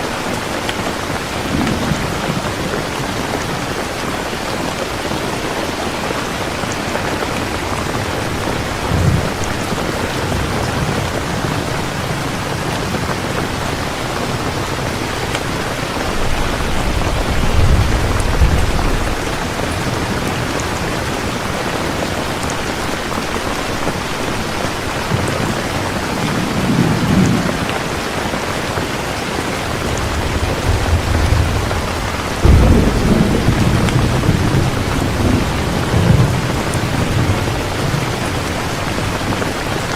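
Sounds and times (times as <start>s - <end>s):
heavy rain hissing: 0.0s - 39.9s
thunder rumbling: 1.2s - 5.2s, 6.3s - 21.6s, 25.0s - 39.9s.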